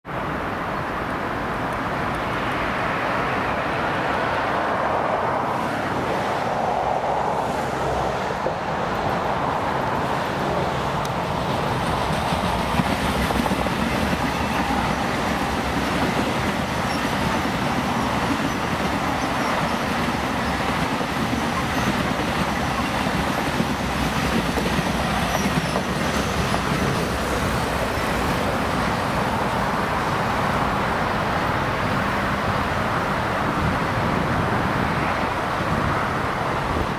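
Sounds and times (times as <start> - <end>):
train wheels rolling on rails: 4.6 - 36.9.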